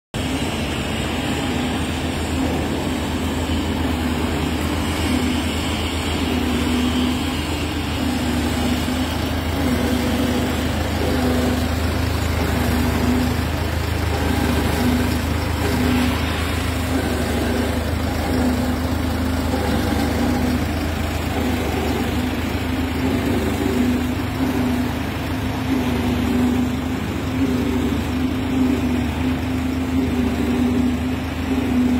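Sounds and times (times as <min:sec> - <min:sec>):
diesel truck engine idling: 0:00.1 - 0:31.9.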